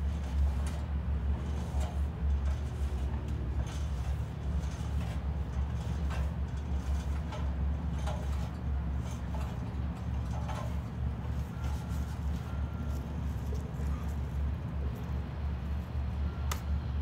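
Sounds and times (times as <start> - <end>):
boots stepping on metal ladder: 0.0 - 14.2
steady low rumble: 0.0 - 17.0.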